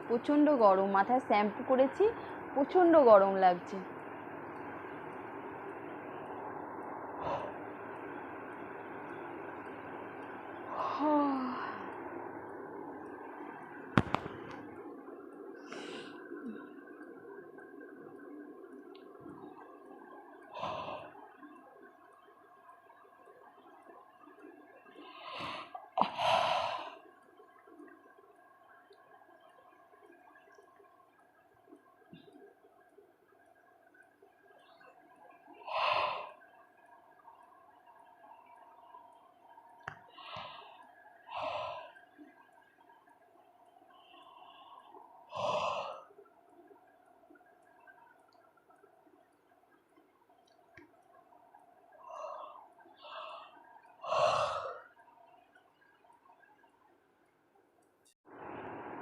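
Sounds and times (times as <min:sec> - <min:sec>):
faint room hum: 0:00.0 - 0:59.0.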